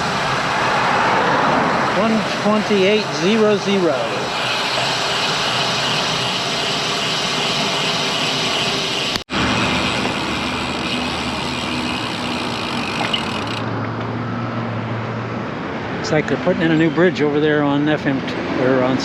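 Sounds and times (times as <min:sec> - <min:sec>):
traffic noise with engine hum: 0:00.0 - 0:19.0.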